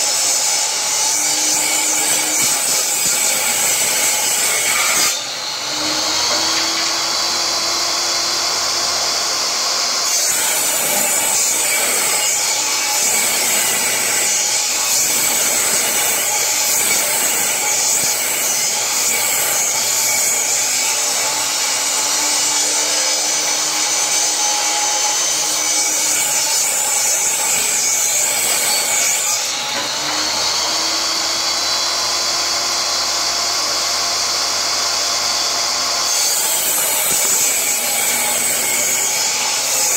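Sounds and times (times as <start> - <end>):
saw blade cutting wood: 0.0 - 39.9
table saw motor running: 0.0 - 39.9.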